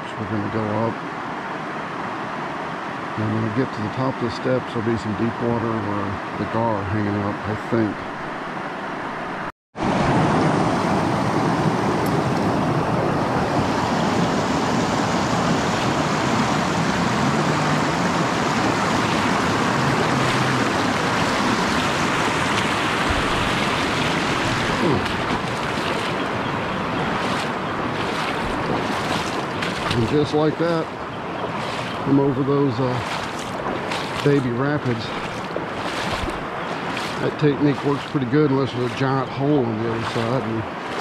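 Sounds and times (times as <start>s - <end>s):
whitewater rushing over rapids: 8.0s - 41.0s.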